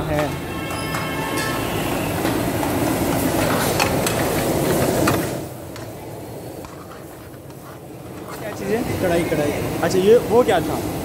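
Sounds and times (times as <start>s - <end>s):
gas burners rushing: 0.0s - 11.0s.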